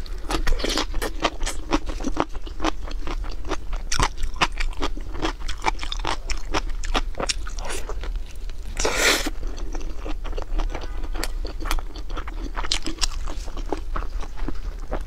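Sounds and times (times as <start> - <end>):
wet chewing with crunchy clicks: 0.2 - 15.0.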